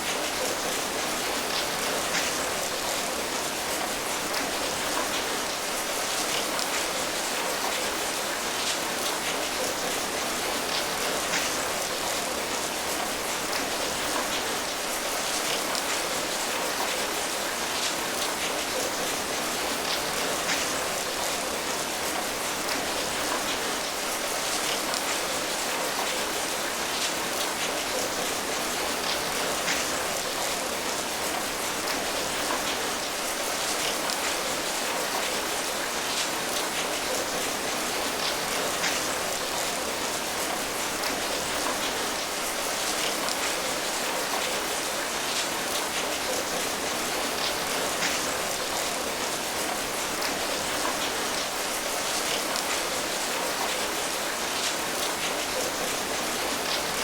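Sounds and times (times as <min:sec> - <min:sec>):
steady rain patter: 0:00.0 - 0:57.0.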